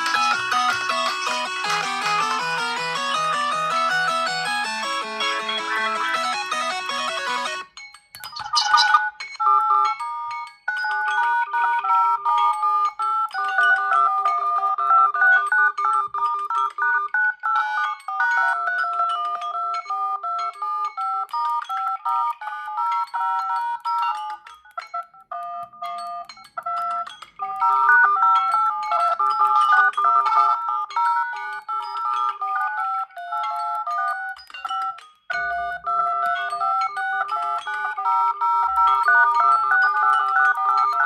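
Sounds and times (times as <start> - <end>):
electronic phone ringtone melody: 0.0 - 41.0.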